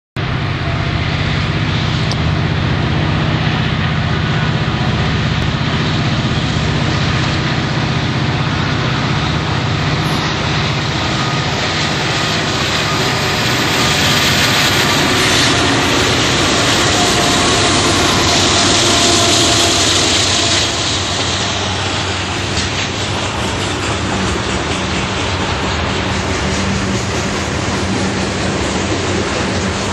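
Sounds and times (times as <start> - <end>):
diesel locomotives droning: 0.2 - 29.9
freight cars rumbling on rails: 0.2 - 29.9.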